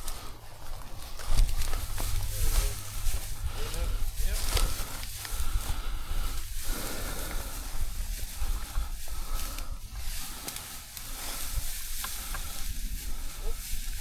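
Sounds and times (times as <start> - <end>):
rustling: 0.0 - 14.0
wind buffeting microphone: 0.0 - 14.0.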